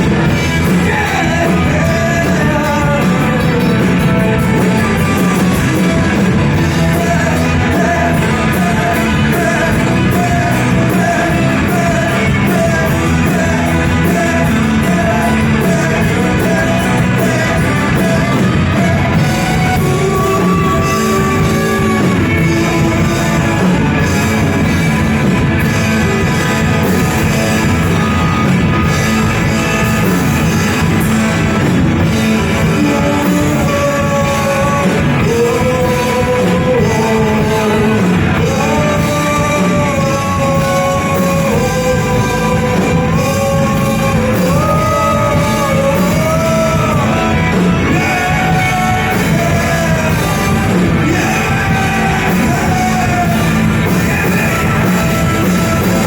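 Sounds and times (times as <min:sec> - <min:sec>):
lead vocals singing: 0:00.0 - 0:56.0
rock band playing: 0:00.0 - 0:56.0.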